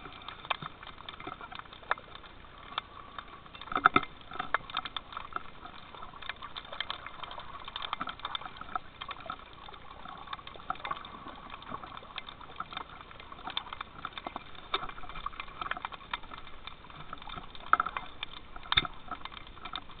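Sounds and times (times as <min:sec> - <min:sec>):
underwater clicks crackling: 0:00.0 - 0:20.0.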